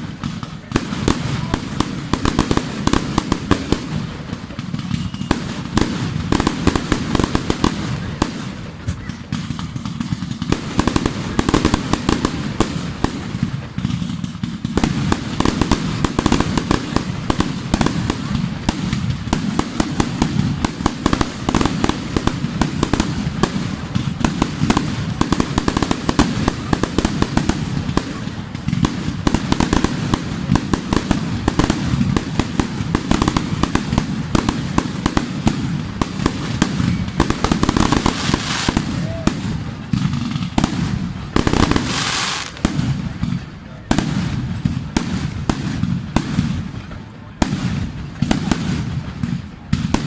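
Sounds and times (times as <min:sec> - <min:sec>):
fireworks banging and crackling: 0:00.0 - 0:50.0
onlookers' voices: 0:00.0 - 0:50.0.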